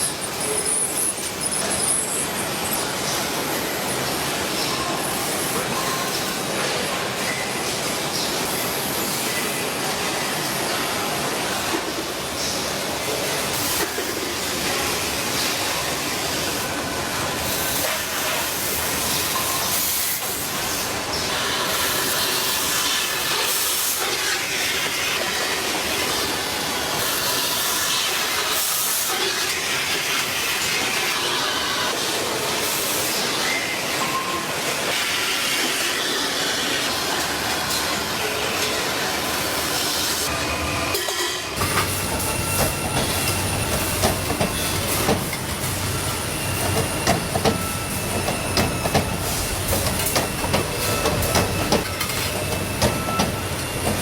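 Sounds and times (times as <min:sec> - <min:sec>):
factory machinery hissing and clattering: 0:00.0 - 0:54.0.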